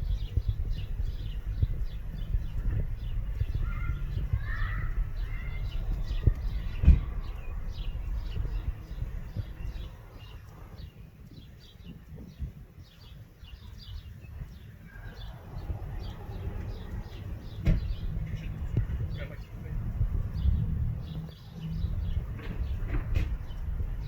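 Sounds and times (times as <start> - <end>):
low rumble: 0.0 - 11.0, 14.4 - 24.0
small birds chirping: 0.0 - 24.0.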